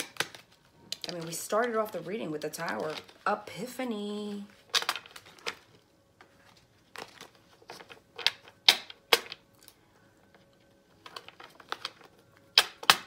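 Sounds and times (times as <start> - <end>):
cards being shuffled: 0.0 - 1.9, 2.6 - 3.4, 4.4 - 13.0.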